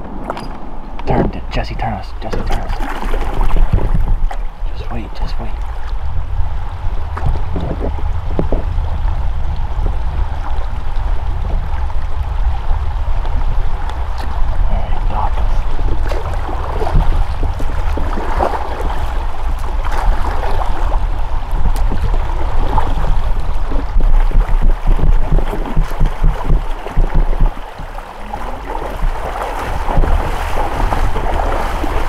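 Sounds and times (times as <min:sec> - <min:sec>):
steady low rumble: 0:00.0 - 0:32.0
river water rushing: 0:02.6 - 0:32.0.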